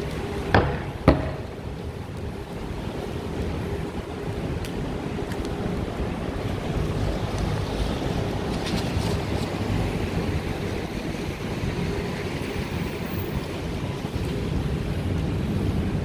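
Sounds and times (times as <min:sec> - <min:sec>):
rain on a street: 0:00.0 - 0:00.6, 0:01.2 - 0:16.0
traffic: 0:00.0 - 0:16.0.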